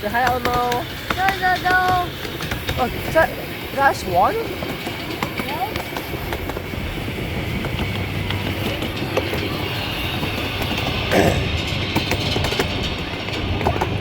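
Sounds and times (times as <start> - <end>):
train rumble: 0.0 - 14.0
train wheels clattering on rails: 0.0 - 14.0.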